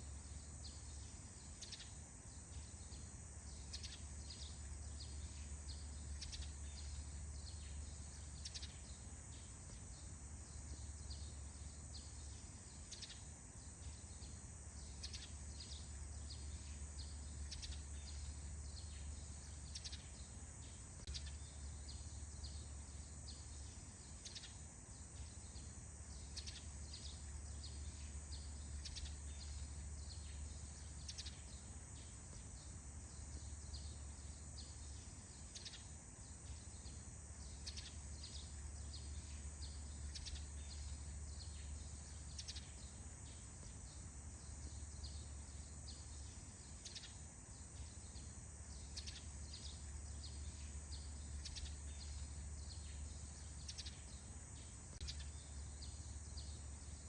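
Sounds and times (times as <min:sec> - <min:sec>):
steady high-pitched whine: 0:00.0 - 0:57.0
birds chirping: 0:00.2 - 0:57.0.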